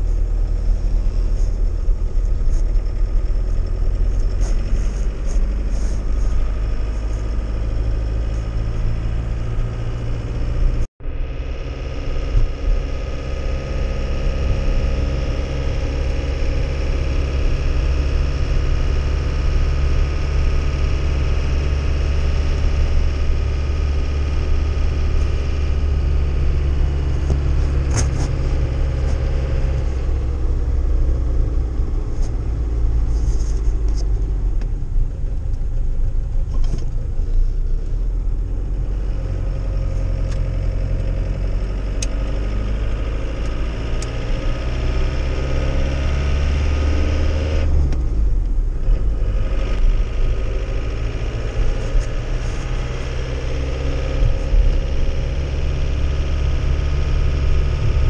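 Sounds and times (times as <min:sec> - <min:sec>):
diesel engine running: 0:00.0 - 0:58.0
low road rumble: 0:00.0 - 0:58.0.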